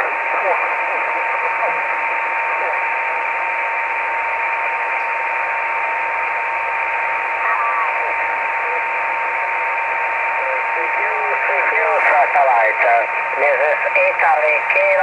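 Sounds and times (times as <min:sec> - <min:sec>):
faint wavering radio signals: 0:00.0 - 0:15.0
radio receiver hiss: 0:00.0 - 0:15.0.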